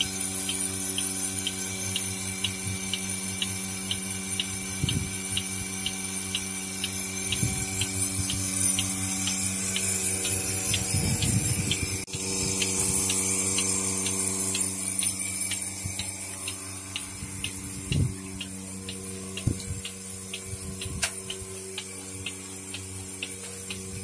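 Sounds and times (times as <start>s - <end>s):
milking pulsator clicking: 0.0s - 24.0s
vacuum pump motor humming: 0.0s - 24.0s.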